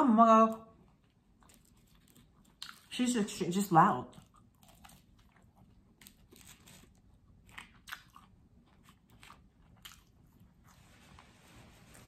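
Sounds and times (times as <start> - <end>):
faint chewing with soft crunches: 0.2 - 12.0.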